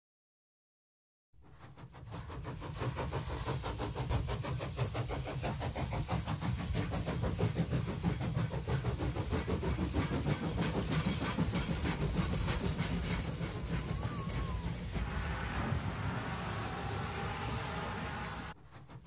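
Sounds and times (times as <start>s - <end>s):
train carriage rumbling on track: 1.4s - 19.0s.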